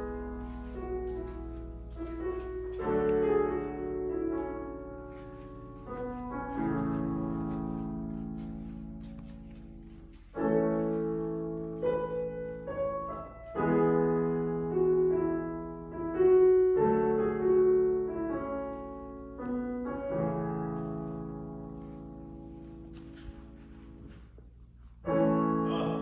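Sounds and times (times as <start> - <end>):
digital piano chords and melody: 0.0 - 24.4, 25.0 - 26.0.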